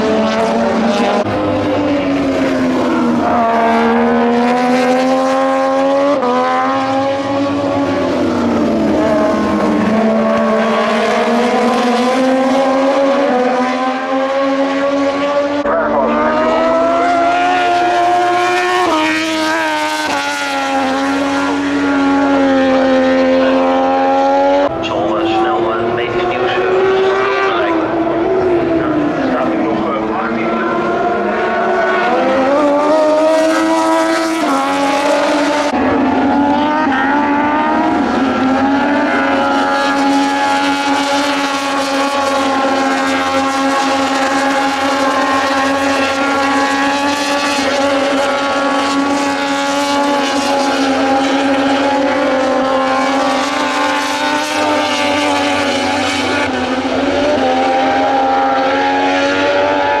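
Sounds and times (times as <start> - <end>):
racing motorcycles at high revs: 0.0 - 60.0.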